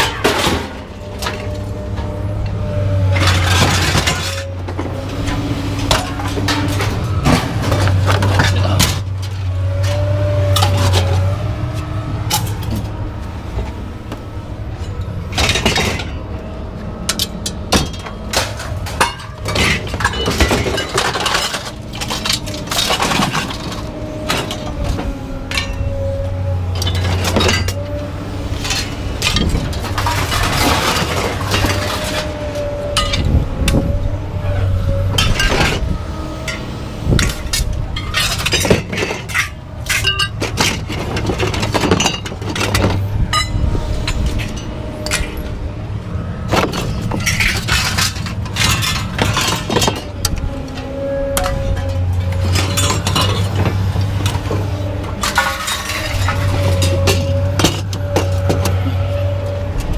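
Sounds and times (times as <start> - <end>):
scrap metal clanking onto pile: 0.0 - 11.4, 14.7 - 33.8, 35.1 - 45.6, 46.5 - 59.9.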